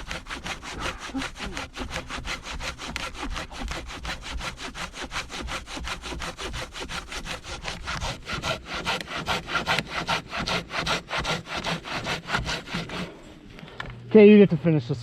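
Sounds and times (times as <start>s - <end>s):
pruning saw cutting log: 0.0s - 13.2s.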